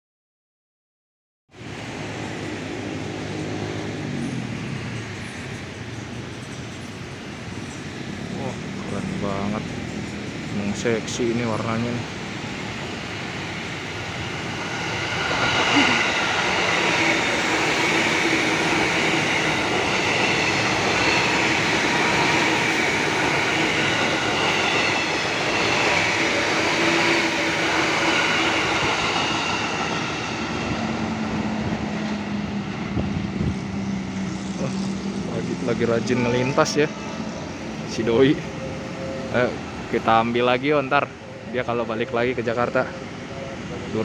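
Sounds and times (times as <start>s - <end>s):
train wheels rushing on rail: 1.6s - 44.0s.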